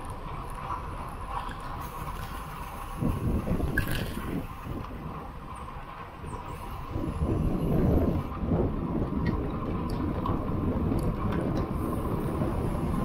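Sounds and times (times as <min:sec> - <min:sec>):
bike tyres on asphalt: 0:00.0 - 0:13.0
wind rushing over microphone: 0:00.0 - 0:13.0.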